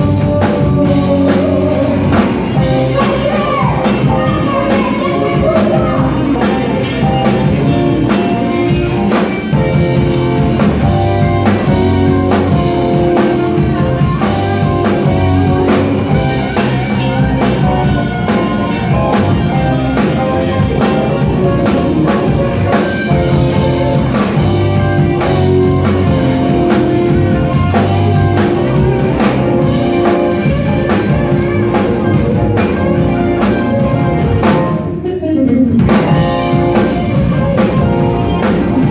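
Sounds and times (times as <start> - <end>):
instrumental rock band: 0.0 - 38.9.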